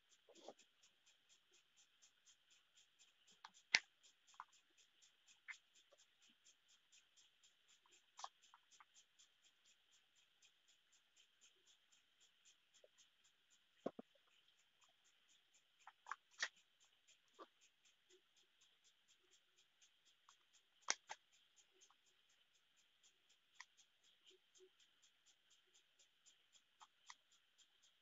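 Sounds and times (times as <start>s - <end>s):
faint steady ticking: 0.0s - 28.0s.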